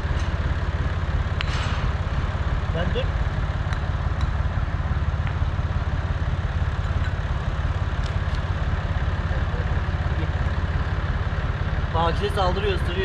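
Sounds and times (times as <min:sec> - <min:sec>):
engine droning steadily: 0:00.0 - 0:13.0.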